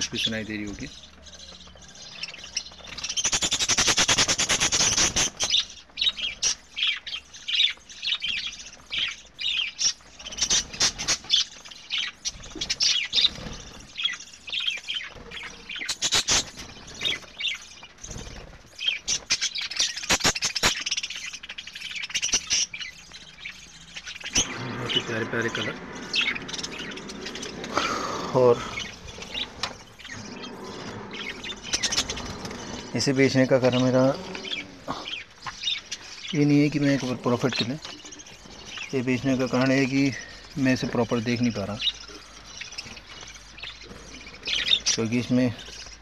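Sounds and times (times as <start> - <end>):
budgerigars chattering: 0.0 - 46.0.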